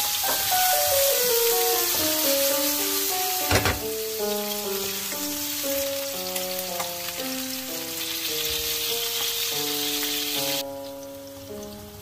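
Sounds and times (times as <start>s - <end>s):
background music: 0.0s - 12.0s
chickpeas sizzling in oil: 0.0s - 12.0s.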